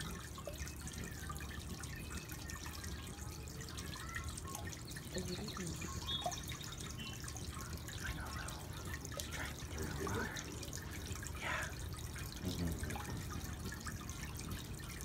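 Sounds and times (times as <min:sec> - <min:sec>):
fountain water trickling and splashing: 0:00.0 - 0:15.0.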